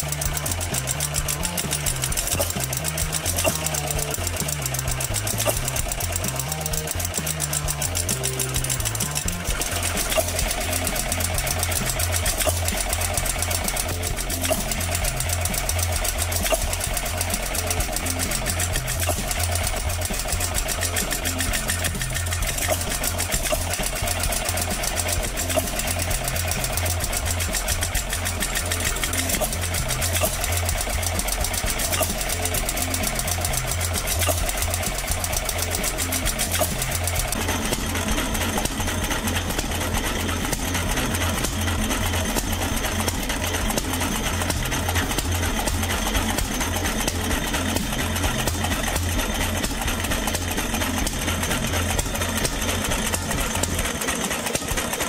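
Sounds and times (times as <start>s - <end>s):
stationary engine clattering: 0.0s - 55.0s.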